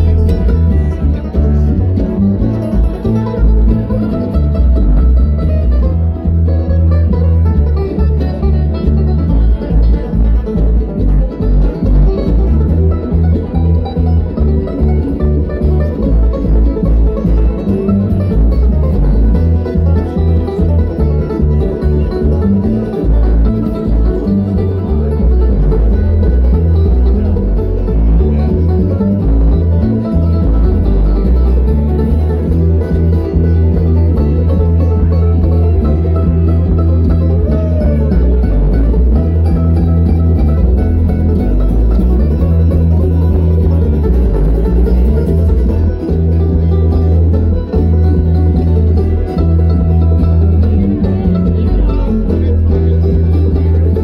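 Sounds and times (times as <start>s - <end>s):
acoustic guitar: 0.0s - 54.0s
banjo: 0.0s - 54.0s
upright bass: 0.0s - 54.0s.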